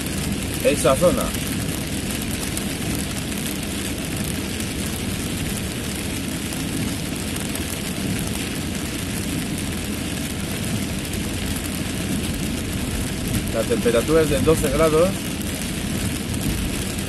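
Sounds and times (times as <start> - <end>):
car engine running: 0.0 - 17.0
heavy rain on a car: 0.0 - 17.0
tyres hissing on wet road: 0.0 - 17.0.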